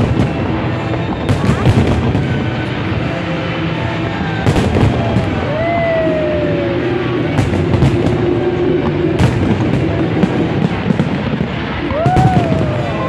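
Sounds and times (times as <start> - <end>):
background music: 0.0 - 13.0
fireworks bangs and crackles: 0.0 - 13.0.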